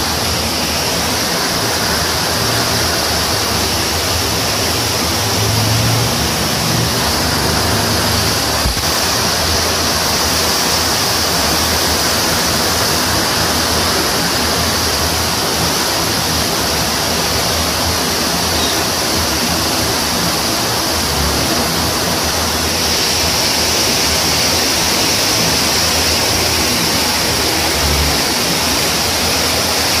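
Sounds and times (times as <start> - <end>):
floodwater rushing: 0.0 - 30.0
torrential rain: 0.0 - 30.0.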